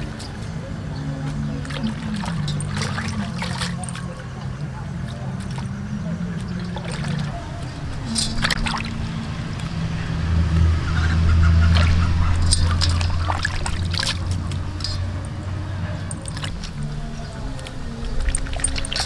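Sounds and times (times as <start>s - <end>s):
low steady hum: 0.0s - 19.0s
water sloshing and splashing: 0.0s - 19.0s.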